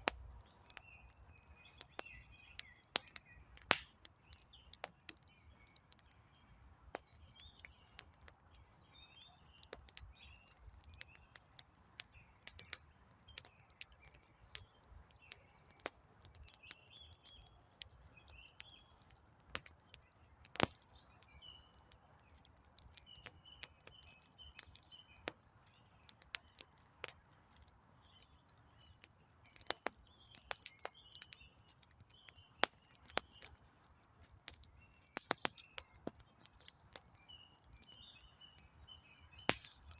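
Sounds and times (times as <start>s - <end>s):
campfire crackling: 0.0s - 39.9s
small birds chirping: 0.0s - 39.9s.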